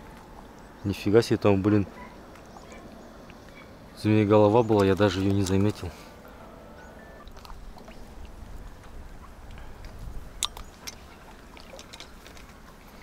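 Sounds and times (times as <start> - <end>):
water movement at shore: 0.0 - 13.0.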